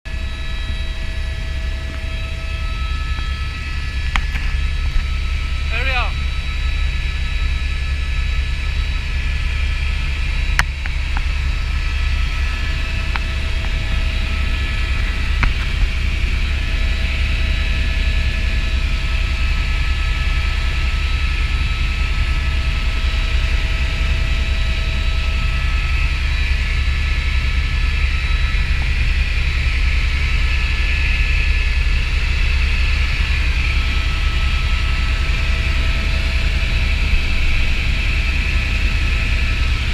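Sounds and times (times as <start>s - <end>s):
helicopter rumble and whine: 0.0s - 39.9s.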